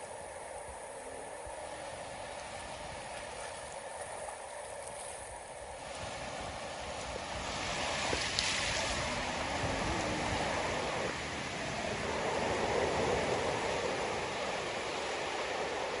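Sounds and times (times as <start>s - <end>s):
ocean surf on rocky shore: 0.0s - 16.0s.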